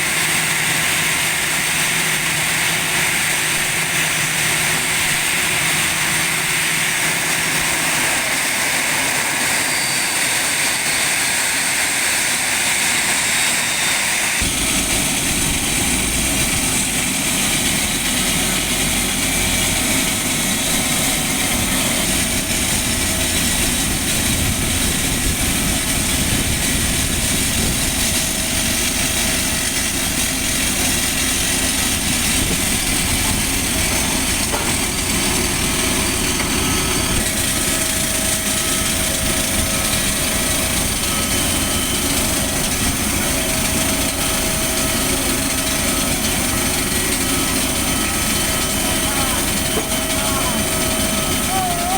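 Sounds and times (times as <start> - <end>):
airliner engines whining: 0.0 - 51.9.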